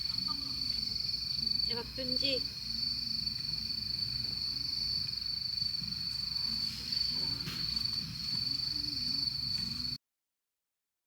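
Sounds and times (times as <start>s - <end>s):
crickets trilling: 0.0s - 10.0s
low rumble of outdoor noise: 0.0s - 10.0s.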